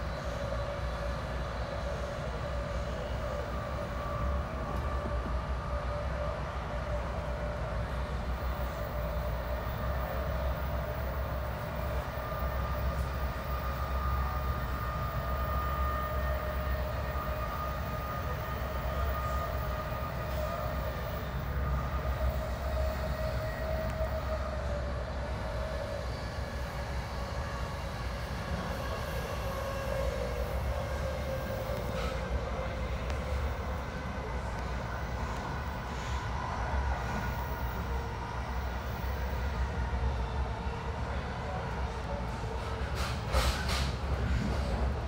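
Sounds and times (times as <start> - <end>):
train coach rumbling: 0.0 - 45.0.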